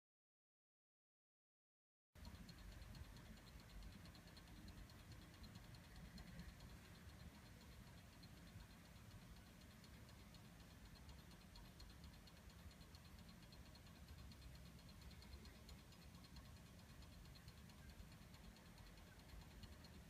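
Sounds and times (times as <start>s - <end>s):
clock ticking: 2.2s - 20.0s.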